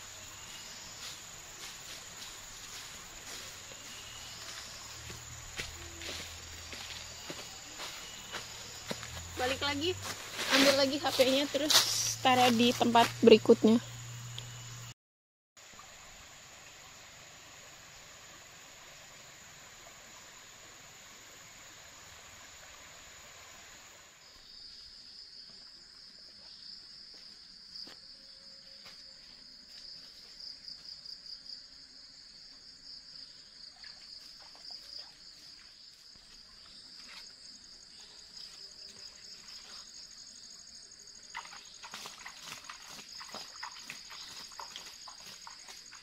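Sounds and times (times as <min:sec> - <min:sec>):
insects trilling: 0:00.0 - 0:15.0, 0:15.6 - 0:46.0.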